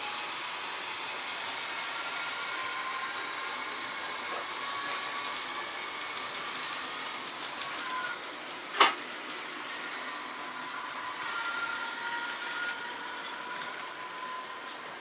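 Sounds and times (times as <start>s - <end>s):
electric motor whine: 0.0s - 15.0s
model trains rolling: 0.0s - 15.0s.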